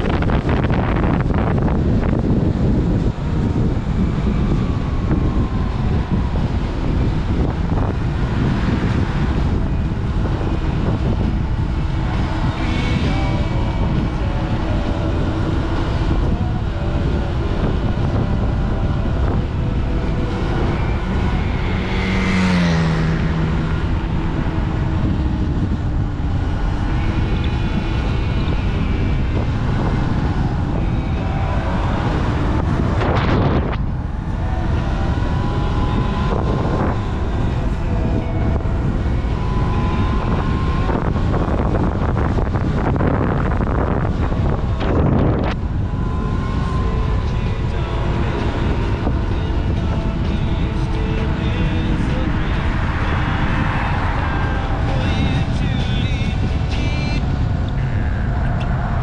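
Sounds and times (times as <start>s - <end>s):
road rumble: 0.0s - 59.0s
vehicle passing by: 0.0s - 59.0s
wind rushing over microphone: 0.0s - 59.0s.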